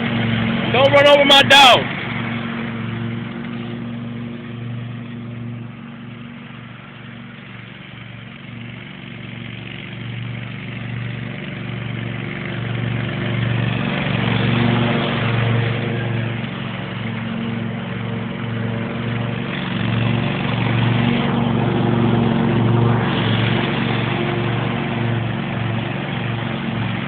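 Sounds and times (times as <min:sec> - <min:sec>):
riding lawn mower engine: 0:00.0 - 0:27.0.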